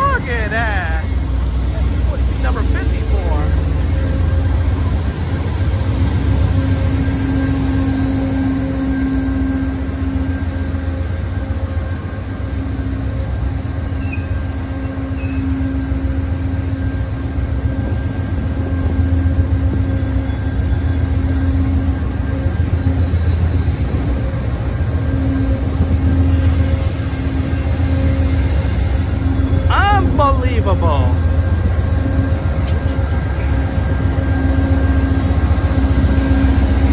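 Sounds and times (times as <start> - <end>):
constant hum: 0.0 - 28.2, 29.2 - 36.9
diesel locomotive engines droning: 0.0 - 36.9.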